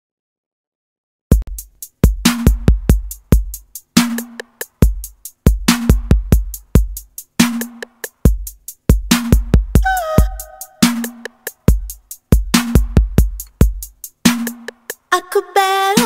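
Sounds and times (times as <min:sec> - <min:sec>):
drum machine beat: 0:01.3 - 0:16.0.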